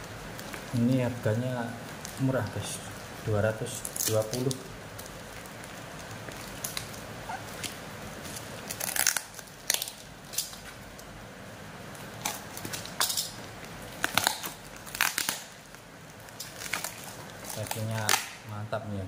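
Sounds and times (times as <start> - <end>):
packaging crackling and crinkling: 0.0 - 18.6
steady background hiss: 0.0 - 19.0.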